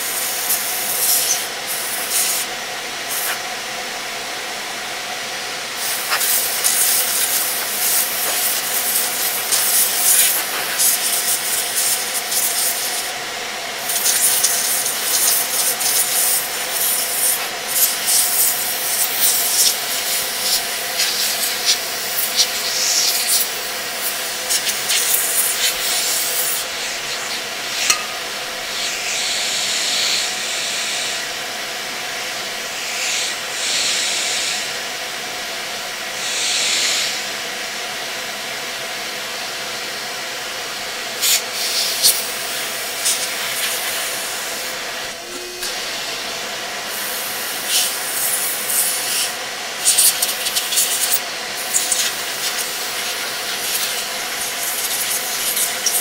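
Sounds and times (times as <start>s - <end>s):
vacuum cleaner motor running: 0.0s - 56.0s.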